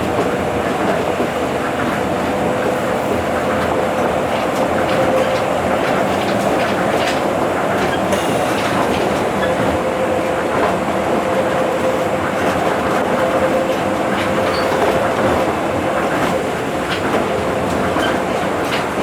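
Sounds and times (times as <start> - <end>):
rubber tyres rumbling on track: 0.0 - 19.0
steady train whine: 0.0 - 19.0.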